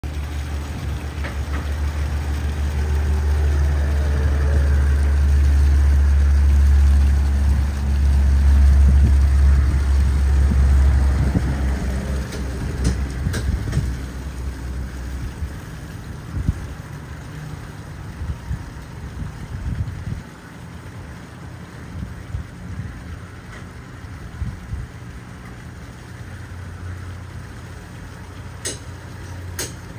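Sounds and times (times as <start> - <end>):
low motor rumble: 0.0 - 29.9.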